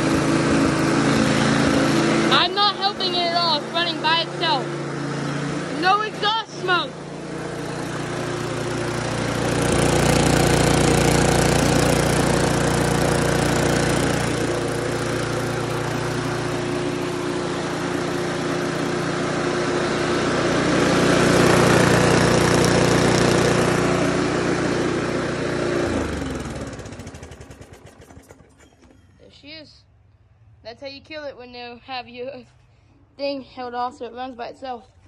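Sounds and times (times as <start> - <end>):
lawn mower engine running: 0.0 - 29.4.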